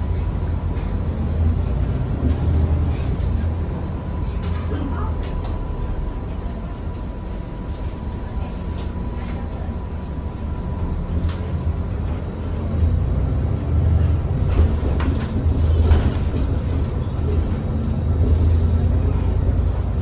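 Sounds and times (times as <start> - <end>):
bus engine and road drone: 0.0 - 20.0.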